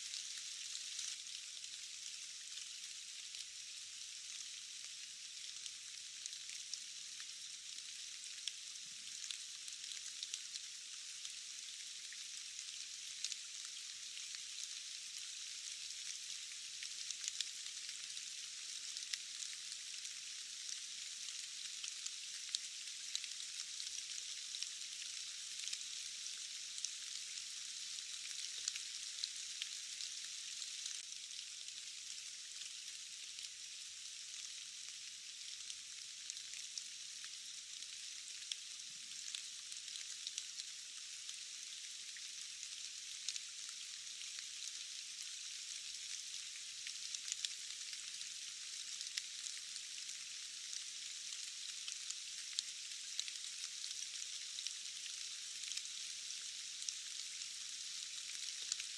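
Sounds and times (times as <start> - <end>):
rain hiss: 0.0 - 58.9.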